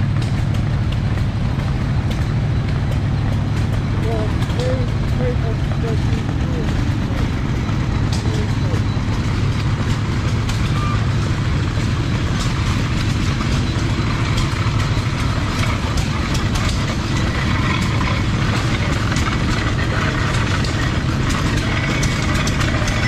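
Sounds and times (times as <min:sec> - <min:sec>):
corn sheller rattling: 0:00.0 - 0:23.0
stationary engines running: 0:00.0 - 0:23.0.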